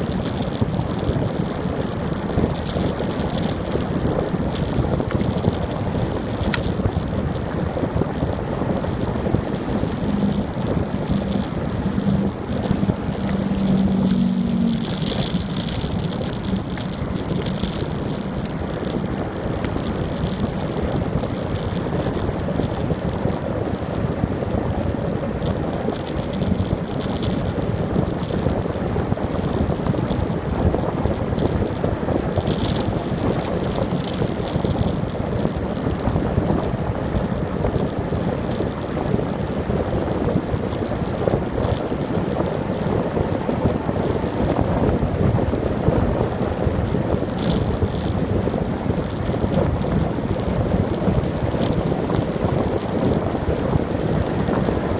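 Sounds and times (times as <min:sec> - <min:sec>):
bicycle tyre road noise: 0:00.0 - 0:54.9
wind on microphone: 0:00.0 - 0:54.9.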